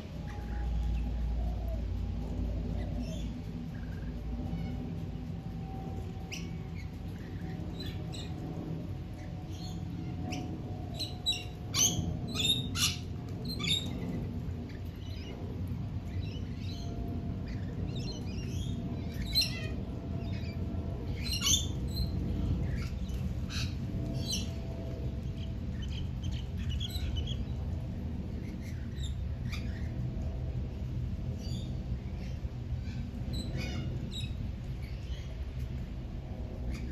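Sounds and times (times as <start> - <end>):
low rumble: 0.0 - 36.9.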